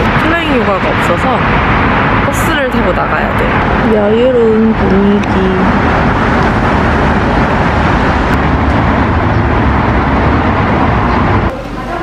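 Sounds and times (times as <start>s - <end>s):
passing cars and buses rumble: 0.0s - 12.0s.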